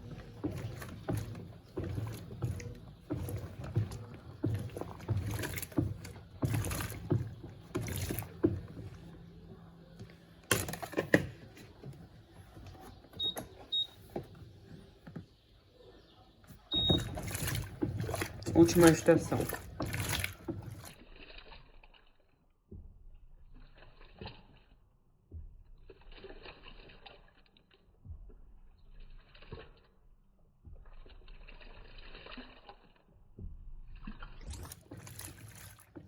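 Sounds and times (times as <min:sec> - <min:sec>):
washing machine water sloshing: 0:00.0 - 0:29.7, 0:30.5 - 0:36.0.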